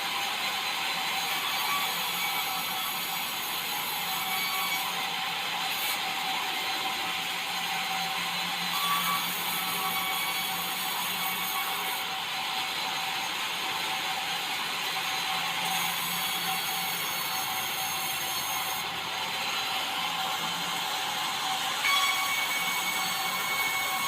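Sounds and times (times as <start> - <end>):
circular saw blade cutting wood: 0.0 - 13.3, 14.0 - 24.0.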